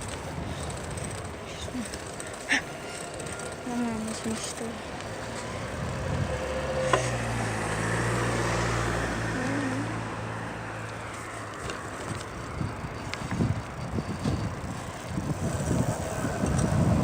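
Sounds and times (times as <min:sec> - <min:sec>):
vehicle engine hum passing: 0:00.0 - 0:17.0.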